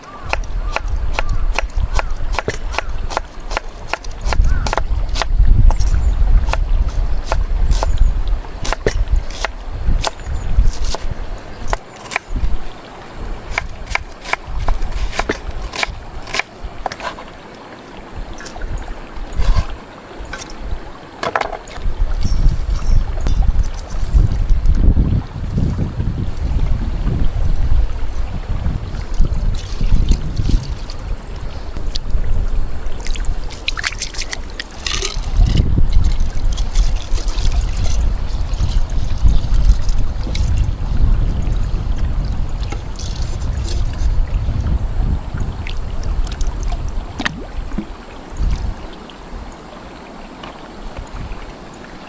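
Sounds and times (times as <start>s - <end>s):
wind buffeting microphone: 0.0s - 21.0s, 21.7s - 49.6s, 50.8s - 51.6s
stream water running: 0.0s - 52.0s.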